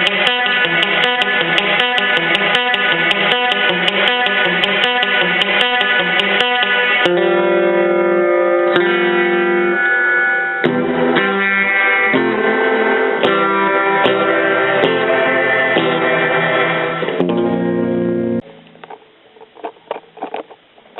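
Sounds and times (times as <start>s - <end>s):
electric guitar chords ringing: 0.0s - 18.8s.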